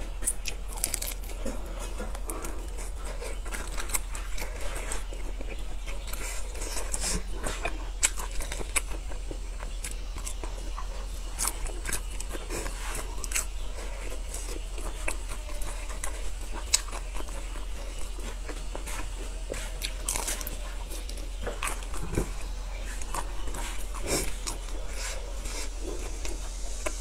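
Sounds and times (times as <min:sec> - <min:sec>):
chewing sausage: 0:00.0 - 0:27.0.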